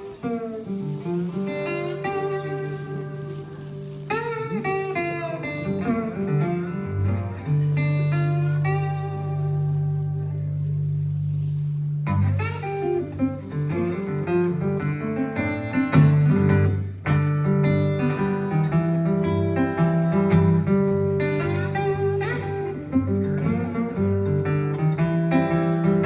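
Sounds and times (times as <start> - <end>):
acoustic guitar blues: 0.0 - 26.0.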